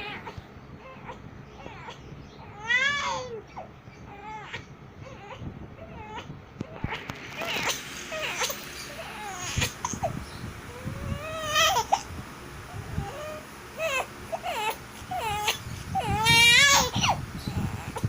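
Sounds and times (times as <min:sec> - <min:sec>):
high-pitched whimpering cries: 0:00.0 - 0:12.1, 0:12.7 - 0:18.0.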